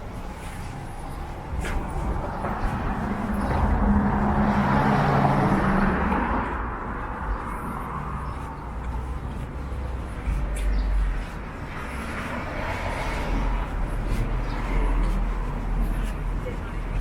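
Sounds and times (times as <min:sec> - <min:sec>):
wind rumble on microphone: 0:00.0 - 0:17.0
vehicle passing by: 0:01.6 - 0:15.6.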